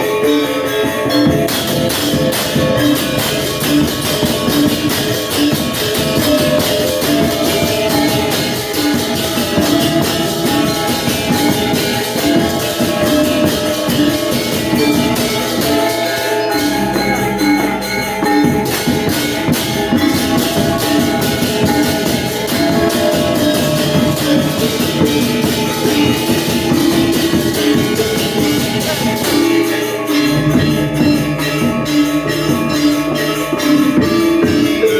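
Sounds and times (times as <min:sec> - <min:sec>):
drums: 0:00.0 - 0:34.9
metallophones and gongs struck: 0:00.0 - 0:34.9.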